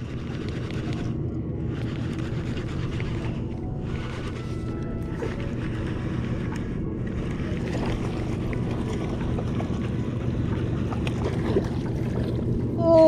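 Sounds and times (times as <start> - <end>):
faint low hum: 0.0 - 13.0
water lapping: 0.0 - 13.0
wind buffeting microphone: 0.0 - 13.0.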